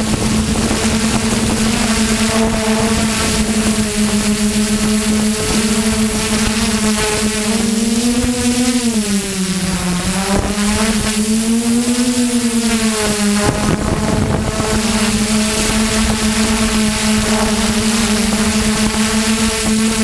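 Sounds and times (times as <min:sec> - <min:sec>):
drone motors whining: 0:00.0 - 0:20.0
rush of air noise: 0:00.0 - 0:20.0.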